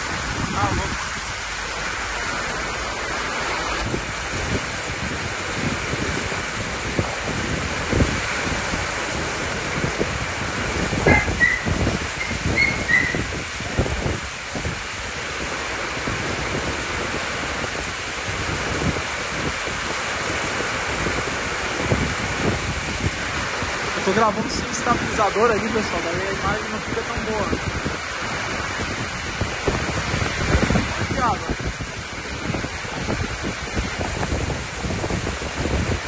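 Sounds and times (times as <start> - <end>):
gusty wind buffeting: 0.0 - 36.0
heavy rain splashing on pavement: 0.0 - 36.0.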